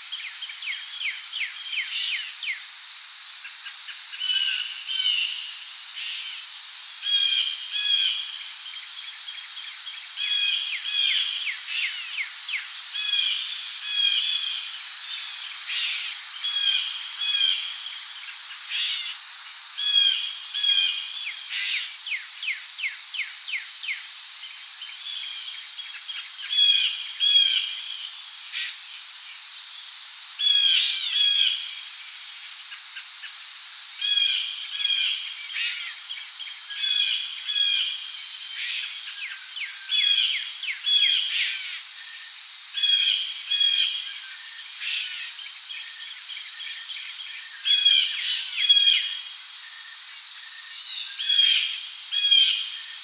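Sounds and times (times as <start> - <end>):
crickets droning: 0.0 - 53.0.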